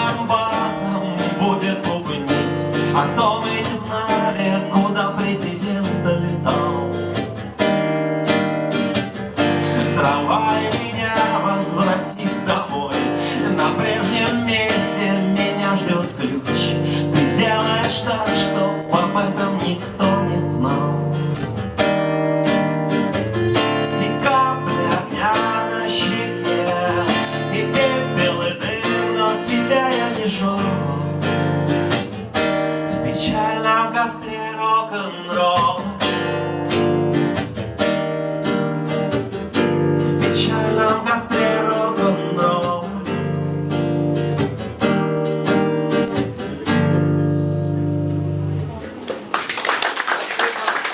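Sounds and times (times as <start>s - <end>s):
acoustic guitar strumming chords: 0.0s - 48.8s.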